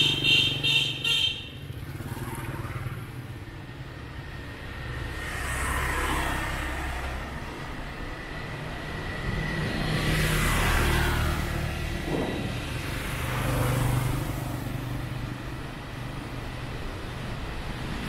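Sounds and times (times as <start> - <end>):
motorbikes and cars passing: 0.0 - 18.0.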